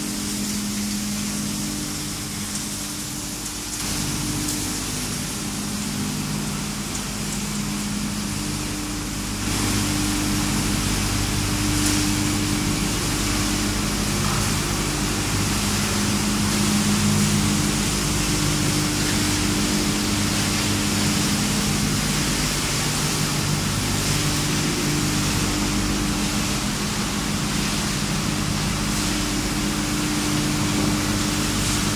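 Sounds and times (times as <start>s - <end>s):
machinery humming: 0.0s - 31.9s.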